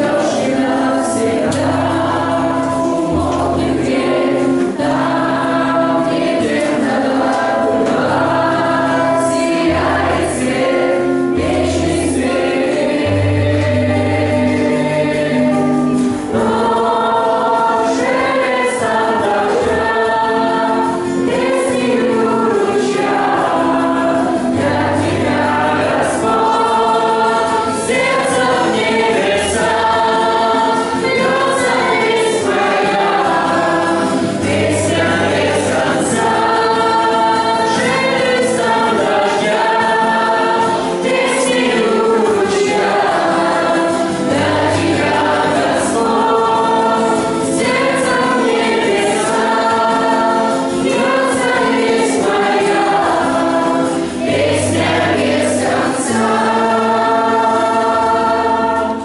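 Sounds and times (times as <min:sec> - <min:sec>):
group singing a worship song: 0:00.0 - 0:59.0
strummed acoustic guitar: 0:00.0 - 0:59.0.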